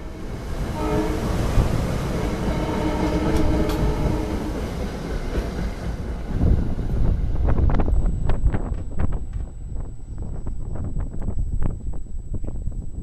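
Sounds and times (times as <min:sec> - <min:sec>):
clickety-clack of rails: 0:00.0 - 0:12.8
train wheels rumbling on rail: 0:00.0 - 0:13.0.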